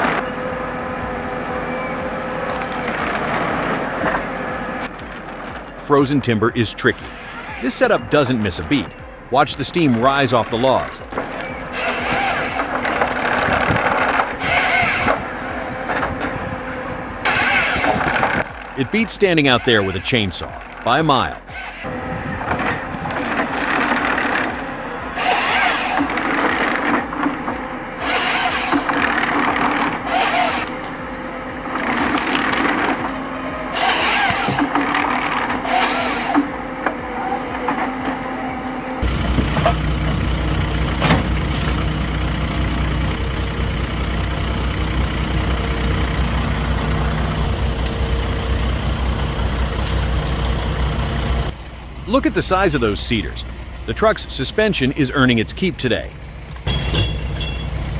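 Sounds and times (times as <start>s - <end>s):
heavy diesel engine running: 0.0s - 57.9s
wood cracking and hissing: 2.1s - 36.9s, 39.0s - 56.7s.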